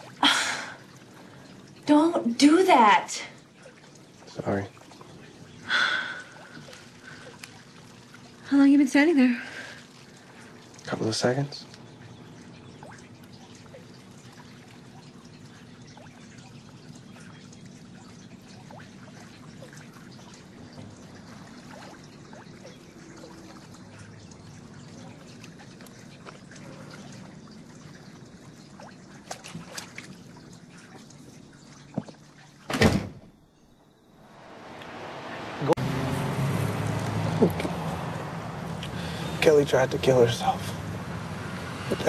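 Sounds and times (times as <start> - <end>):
water dripping and trickling: 0.0 - 32.8, 33.8 - 42.0.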